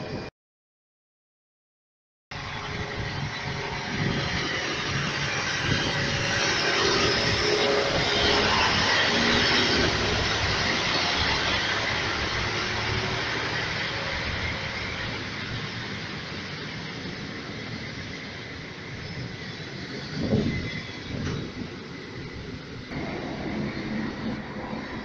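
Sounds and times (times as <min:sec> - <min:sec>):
diesel locomotive engine: 0:00.0 - 0:00.3, 0:02.3 - 0:25.0
train wheels rumbling on rails: 0:02.3 - 0:25.0.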